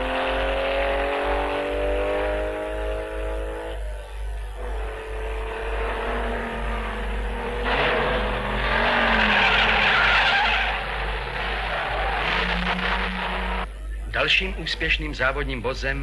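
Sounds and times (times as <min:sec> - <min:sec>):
racing cars passing at speed: 0:00.0 - 0:13.7.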